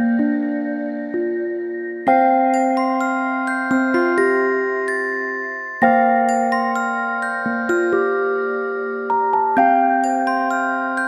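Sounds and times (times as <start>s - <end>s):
gentle glockenspiel lullaby music: 0.0s - 11.0s.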